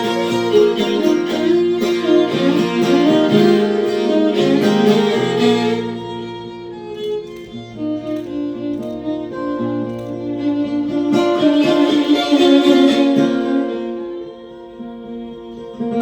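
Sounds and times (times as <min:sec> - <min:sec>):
acoustic guitar: 0:00.0 - 0:16.0
fiddle: 0:00.0 - 0:16.0.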